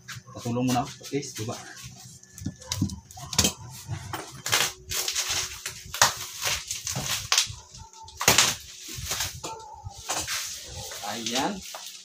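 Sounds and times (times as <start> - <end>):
bubble wrap rustling and crackling: 1.2 - 12.0.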